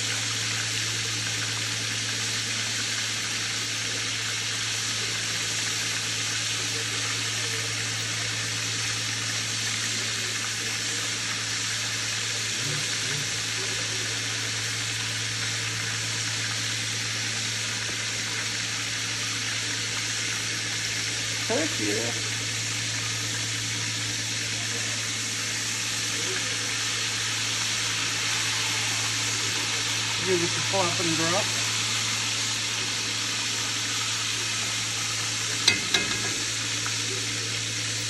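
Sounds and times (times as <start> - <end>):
steaks sizzling in hot oil: 0.0 - 38.0.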